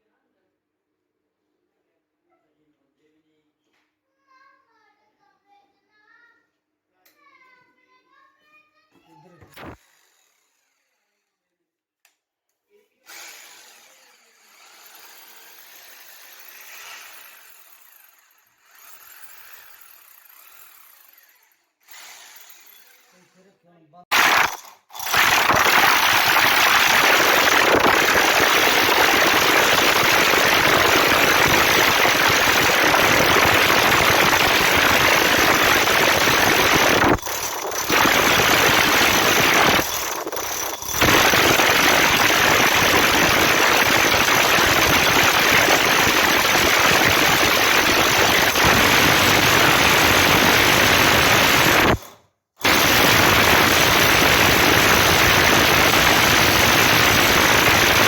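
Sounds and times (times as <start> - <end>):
electric drill grinding into masonry: 9.2 - 11.6, 13.0 - 23.5, 24.1 - 58.0.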